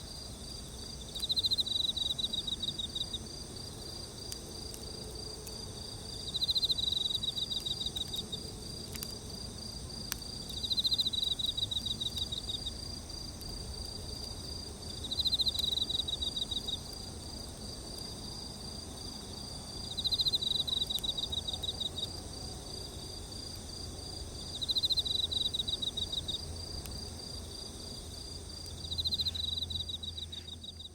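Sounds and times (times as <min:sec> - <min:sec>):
cricket-like trill: 0:00.1 - 0:30.9.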